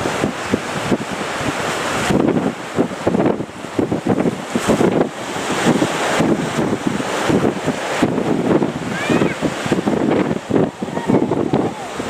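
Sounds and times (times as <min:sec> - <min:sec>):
sea waves rushing: 0:00.0 - 0:12.0
wind buffeting microphone: 0:00.0 - 0:12.0.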